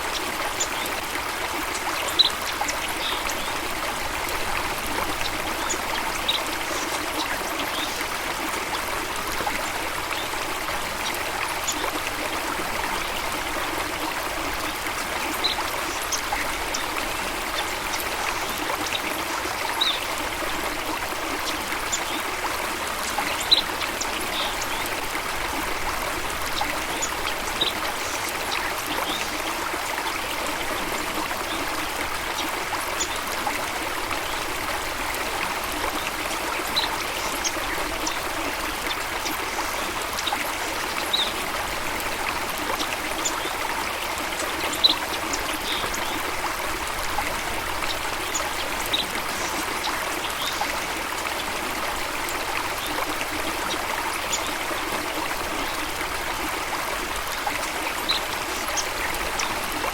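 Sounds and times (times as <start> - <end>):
water rushing and splashing: 0.0 - 59.9.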